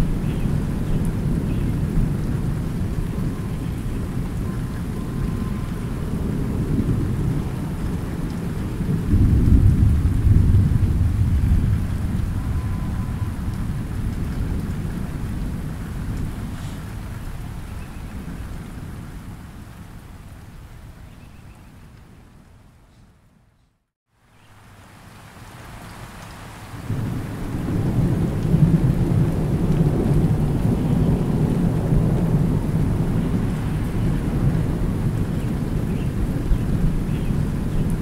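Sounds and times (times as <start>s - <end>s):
thunder rumbling: 0.0s - 19.5s, 26.9s - 38.0s
light rain falling on water: 0.0s - 38.0s.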